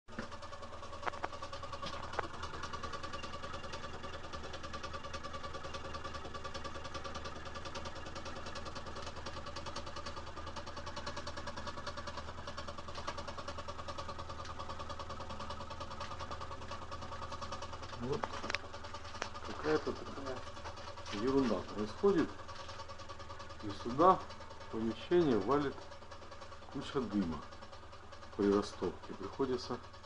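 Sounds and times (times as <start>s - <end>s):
boiler pulsing rhythmically: 0.1s - 30.0s.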